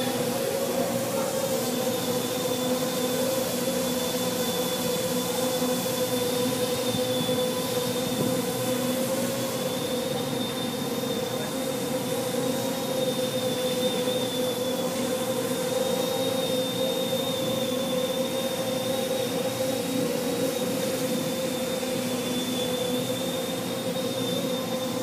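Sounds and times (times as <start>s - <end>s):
drone motors and propellers humming: 0.0s - 25.0s.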